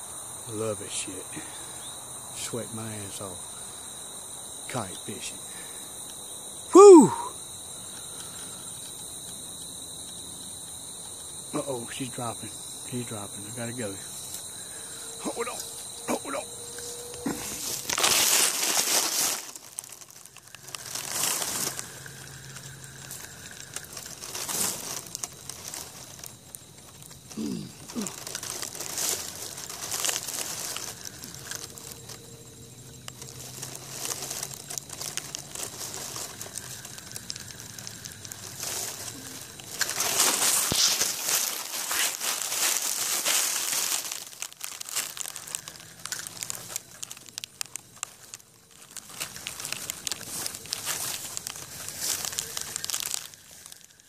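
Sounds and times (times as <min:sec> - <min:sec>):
dry grass rustling on microphone: 0:07.4 - 0:54.0.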